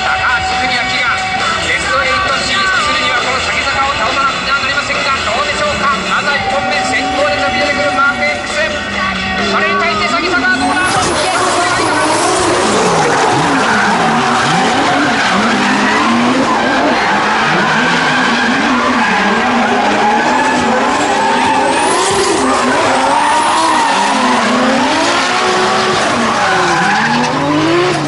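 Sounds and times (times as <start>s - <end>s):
car engines revving: 0.0s - 28.0s
tyres screeching: 5.2s - 28.0s.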